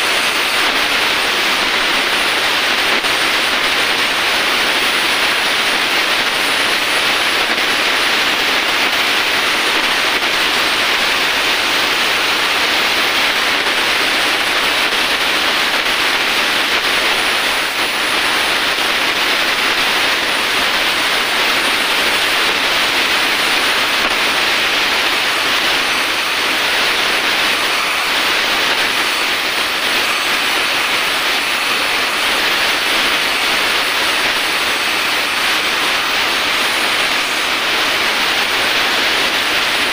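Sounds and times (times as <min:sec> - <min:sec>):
welding torch hissing: 0:00.0 - 0:39.9.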